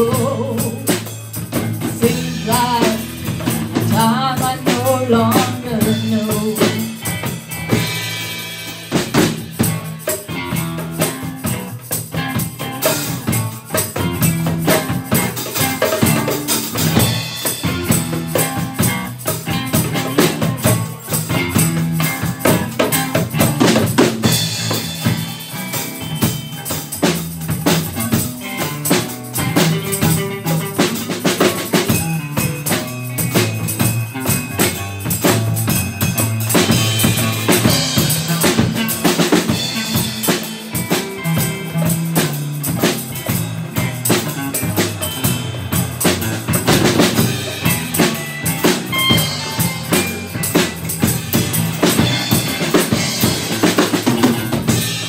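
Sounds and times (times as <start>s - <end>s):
djembe played by hand: 0.0s - 55.0s
live band playing: 0.0s - 55.0s.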